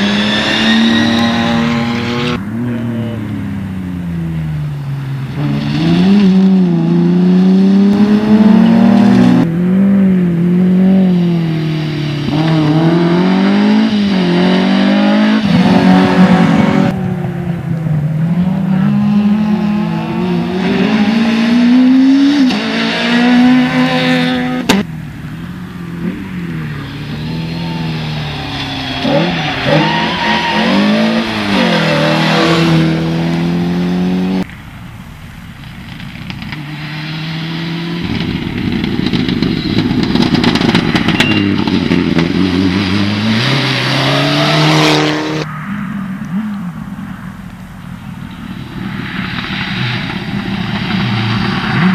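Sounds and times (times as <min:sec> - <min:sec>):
rally car engines accelerating: 0:00.0 - 0:34.5, 0:35.1 - 0:51.9.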